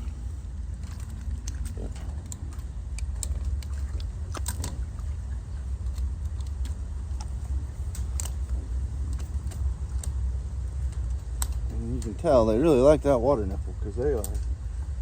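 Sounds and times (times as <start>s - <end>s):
steady low rumble: 0.0s - 15.0s
pigs biting metal nipple clicks: 0.7s - 12.8s.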